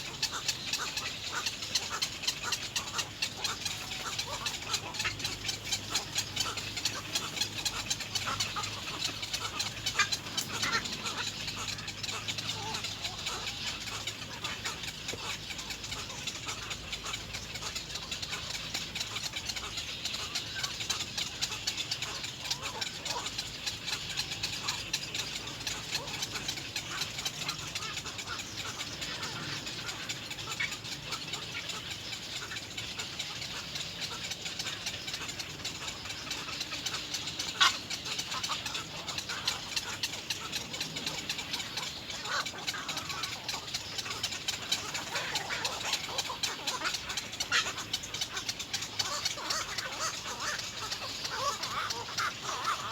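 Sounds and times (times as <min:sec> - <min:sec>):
bird chicks begging chatter: 0:00.0 - 0:52.9.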